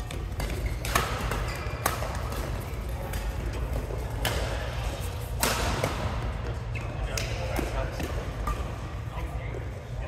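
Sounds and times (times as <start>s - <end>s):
rackets striking shuttlecock: 0.0s - 8.8s.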